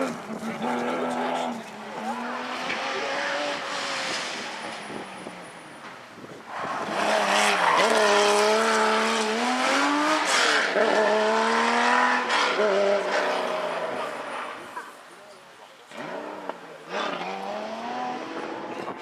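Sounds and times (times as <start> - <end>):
rally car engine revving: 0.0 - 5.6, 6.5 - 14.7, 15.9 - 19.0.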